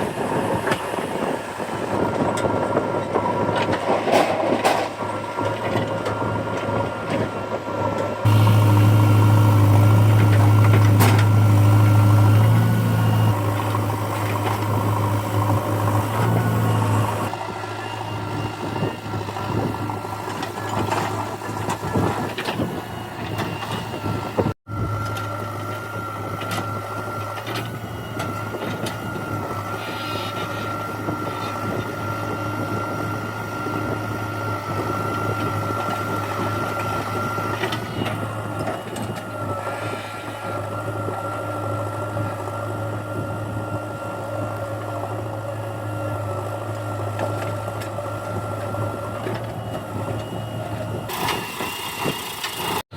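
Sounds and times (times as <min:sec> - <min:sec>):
diesel engine humming: 0:08.2 - 0:52.9.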